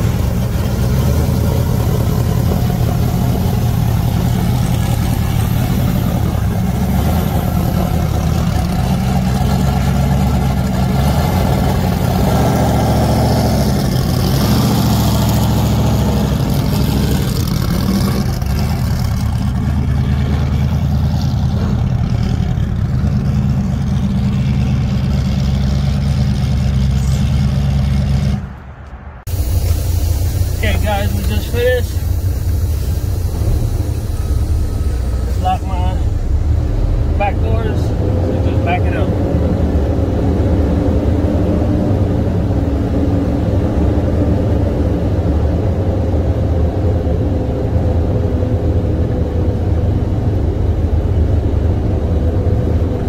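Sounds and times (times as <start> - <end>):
race truck engines droning: 0.0 - 53.0.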